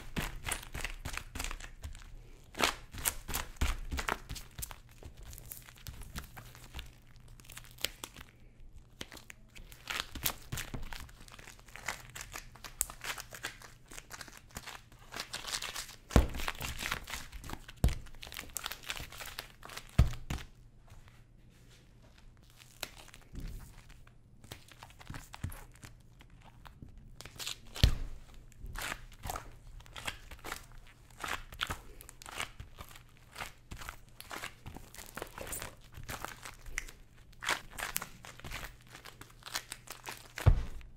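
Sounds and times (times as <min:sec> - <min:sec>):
sugar dough crinkling and tearing: 0:00.0 - 0:21.2, 0:22.2 - 0:40.9.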